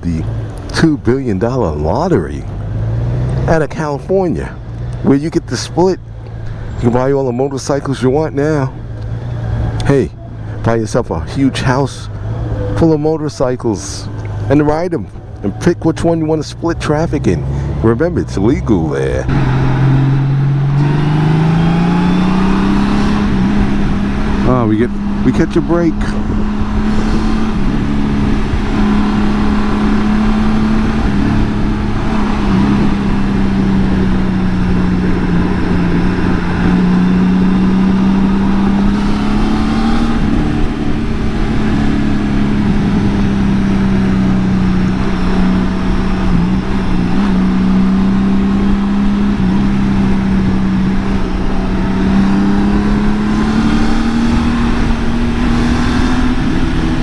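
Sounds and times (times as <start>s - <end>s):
motorcycle engine hum: 0.0s - 57.0s
wind and road noise: 0.0s - 57.0s.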